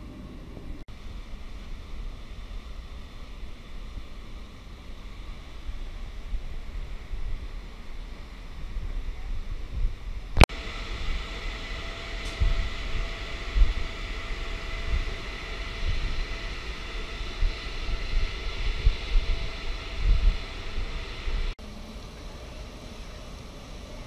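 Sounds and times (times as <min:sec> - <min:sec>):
wind rumbling on microphone: 0:00.0 - 0:10.5, 0:12.3 - 0:21.6
mechanical hum: 0:00.0 - 0:24.0.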